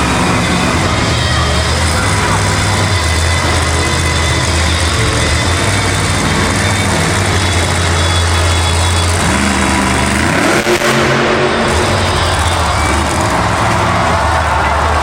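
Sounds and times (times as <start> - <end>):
second higher engine: 0.0 - 15.0
truck engine droning: 0.0 - 15.0.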